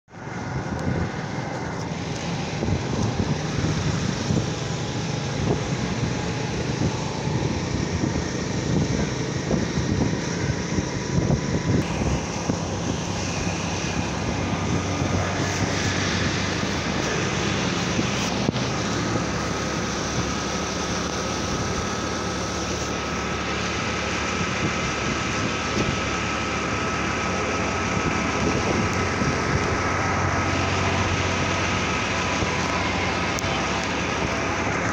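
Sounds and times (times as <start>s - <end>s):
motorcycle engine running: 0.1s - 34.9s
wind buffeting microphone: 0.1s - 34.9s.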